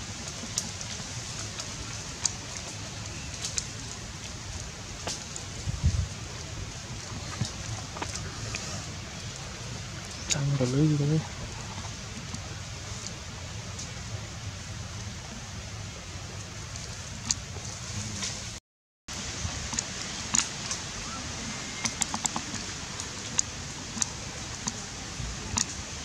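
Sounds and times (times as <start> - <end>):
steady outdoor hiss: 0.0 - 26.0.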